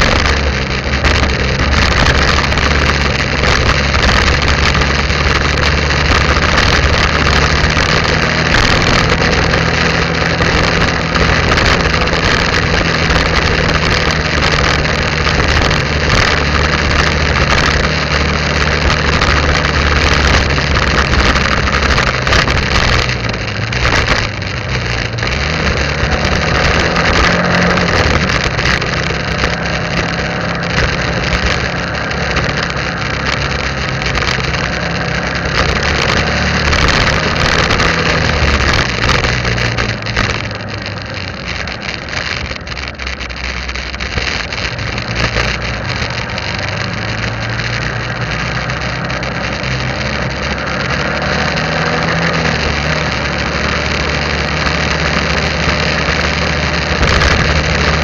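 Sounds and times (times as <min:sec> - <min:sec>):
motorbike engine running: 0:00.0 - 0:58.0
wind and road noise: 0:00.0 - 0:58.0.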